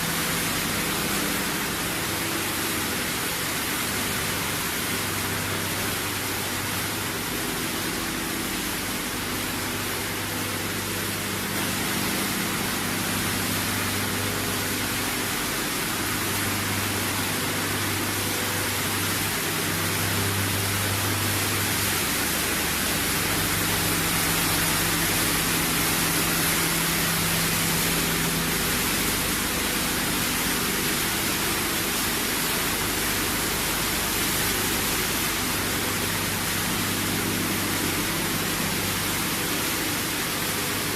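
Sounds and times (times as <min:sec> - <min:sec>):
recycling line machinery running: 0:00.0 - 0:40.9.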